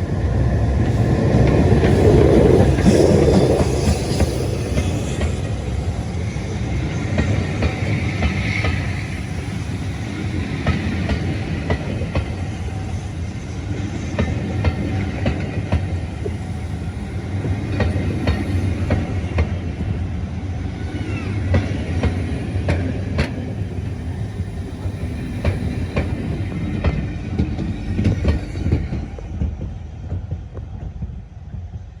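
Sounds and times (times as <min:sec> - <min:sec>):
train rumbling along track: 0:00.0 - 0:32.0.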